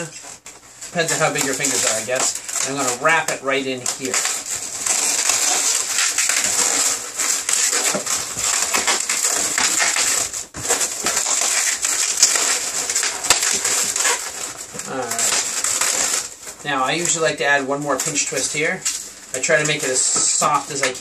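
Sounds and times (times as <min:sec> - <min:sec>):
balloons rubbing together: 0:00.0 - 0:21.0.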